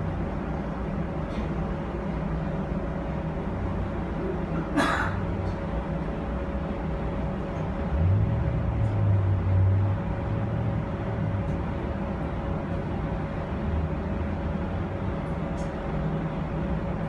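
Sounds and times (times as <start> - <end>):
streetcar rumble and hum: 0.0 - 17.0.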